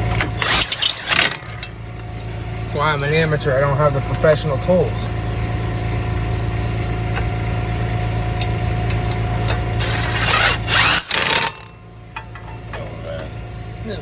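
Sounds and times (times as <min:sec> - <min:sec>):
impact wrench burst: 0:00.0 - 0:12.5
steady low hum: 0:00.0 - 0:14.0.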